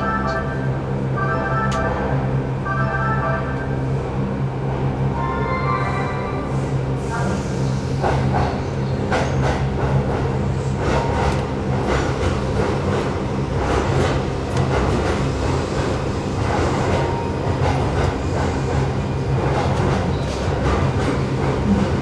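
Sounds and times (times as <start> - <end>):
train electrical hum: 0.0 - 22.0.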